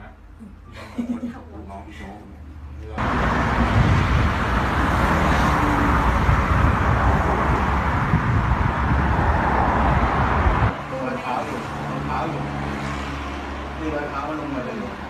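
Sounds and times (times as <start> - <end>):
street traffic low rumble: 0.0 - 15.0.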